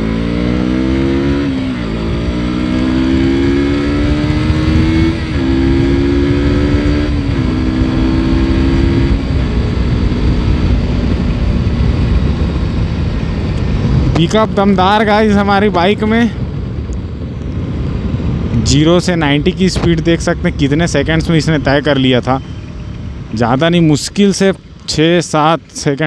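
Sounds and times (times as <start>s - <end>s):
motorcycle engine accelerating: 0.0s - 26.0s
wind rushing over microphone: 0.0s - 26.0s.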